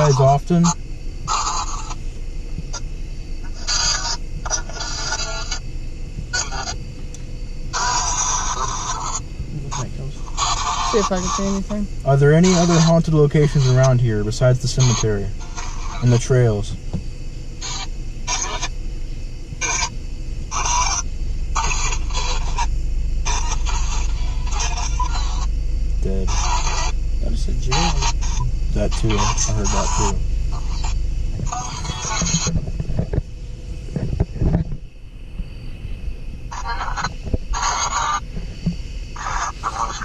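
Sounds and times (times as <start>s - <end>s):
chopped radio static bursts: 0.0s - 6.9s, 7.7s - 18.8s, 19.4s - 40.0s
car cabin rumble: 0.0s - 40.0s.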